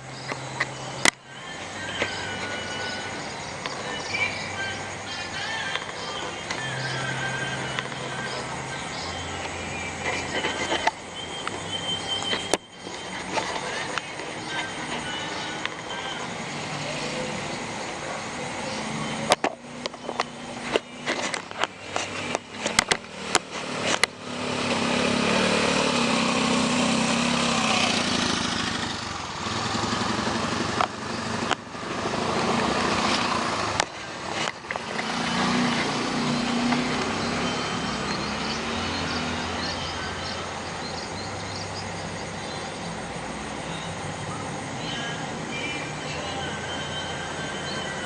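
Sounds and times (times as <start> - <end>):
motorcycles passing: 0.0 - 48.0.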